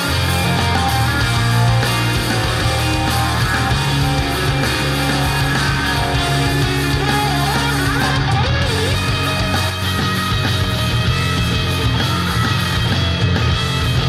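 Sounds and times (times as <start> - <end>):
rock music over loudspeakers: 0.0 - 14.0.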